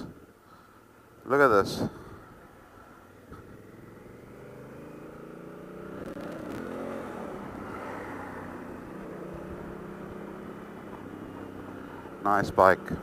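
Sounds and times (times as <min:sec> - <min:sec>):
motorcycle engine accelerating: 0:02.2 - 0:13.0.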